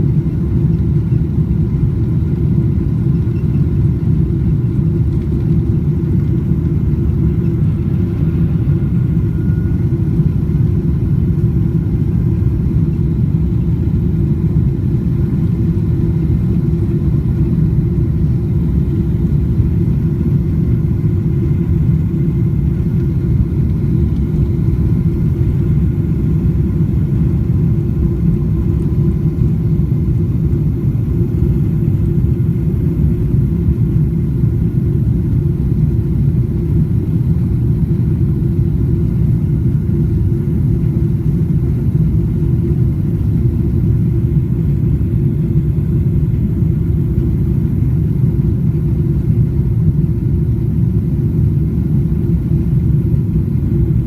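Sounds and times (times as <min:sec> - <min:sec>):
faint engine whine: 0:00.0 - 0:54.0
jet engines rumbling: 0:00.0 - 0:54.0.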